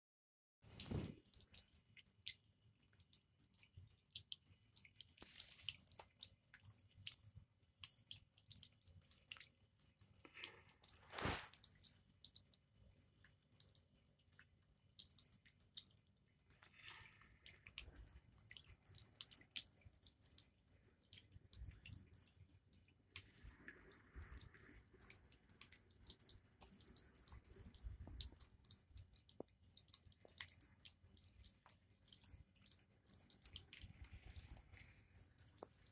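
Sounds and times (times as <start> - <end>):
water dripping and trickling: 0.6 - 35.9.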